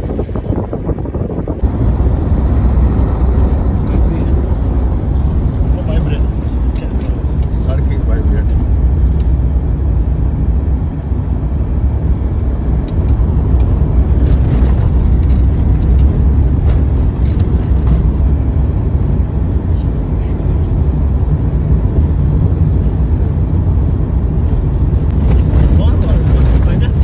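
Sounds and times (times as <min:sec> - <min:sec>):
road noise: 0:00.0 - 0:27.0
vehicle engine rumble: 0:00.0 - 0:27.0.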